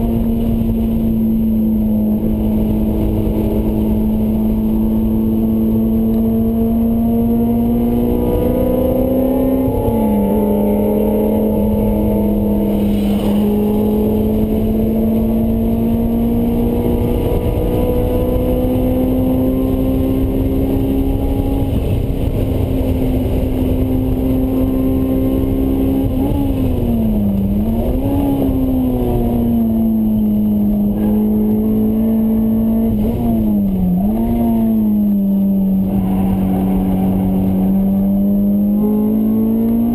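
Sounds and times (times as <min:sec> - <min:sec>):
car engine at high revs: 0:00.0 - 0:39.9
road noise: 0:00.0 - 0:39.9.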